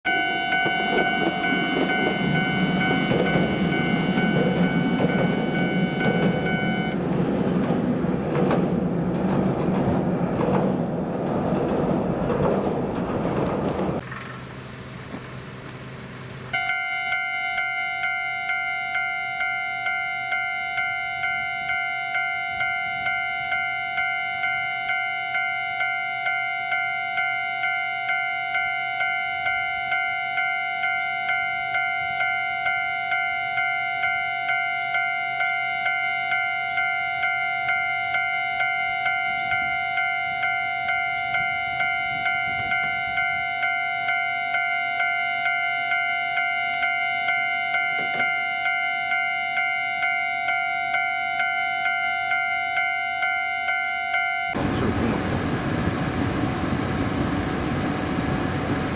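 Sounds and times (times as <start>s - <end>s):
level crossing warning bell: 0.1s - 7.0s, 16.6s - 58.9s.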